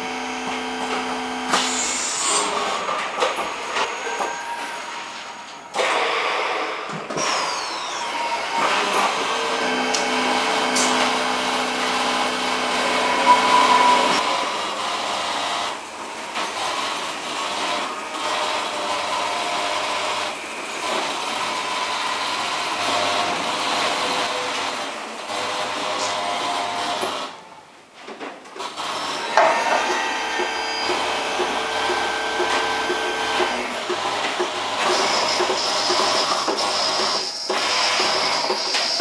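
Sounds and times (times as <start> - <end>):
milking machine whirring: 0.0 - 27.5, 28.5 - 39.0.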